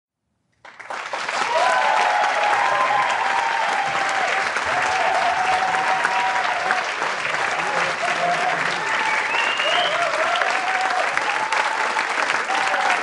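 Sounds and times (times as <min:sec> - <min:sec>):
crowd clapping: 0:00.6 - 0:13.0
crowd cheering: 0:00.8 - 0:13.0.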